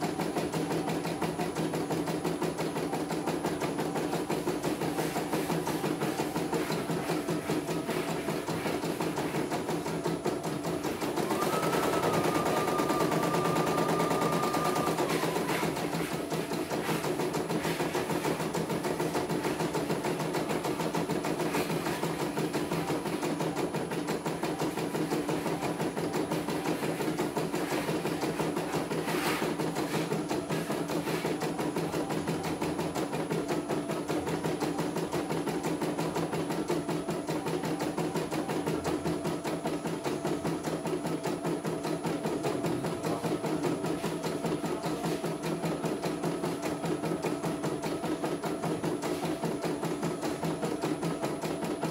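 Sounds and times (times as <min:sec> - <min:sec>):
embroidery machine stitching: 0:00.0 - 0:51.9.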